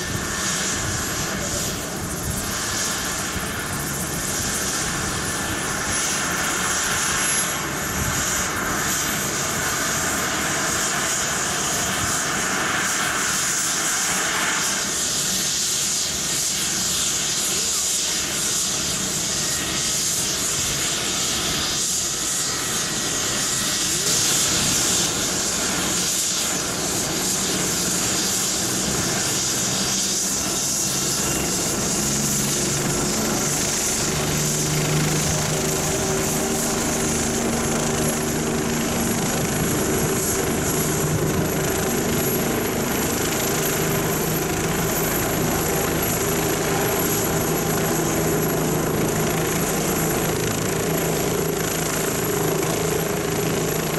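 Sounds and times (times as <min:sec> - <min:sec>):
helicopter turbine whine: 0:00.0 - 0:53.9.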